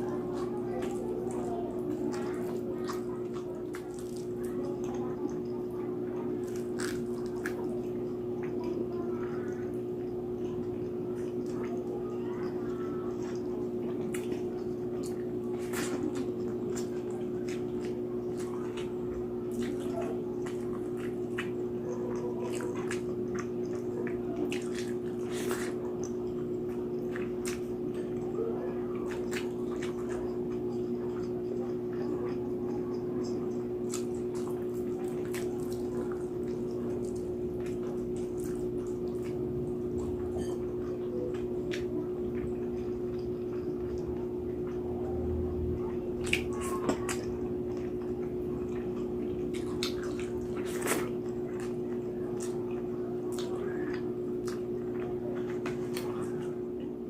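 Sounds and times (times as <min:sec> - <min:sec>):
wet chewing and lip-smacking: 0:00.0 - 0:56.6
steady low hum: 0:00.0 - 0:57.0.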